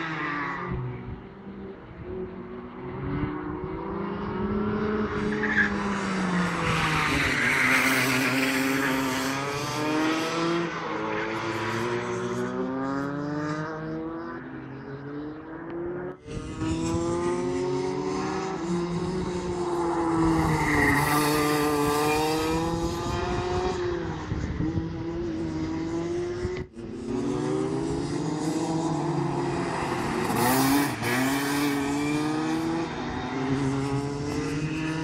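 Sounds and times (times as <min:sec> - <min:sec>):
kart engine revving: 0:03.7 - 0:14.2, 0:15.0 - 0:35.0.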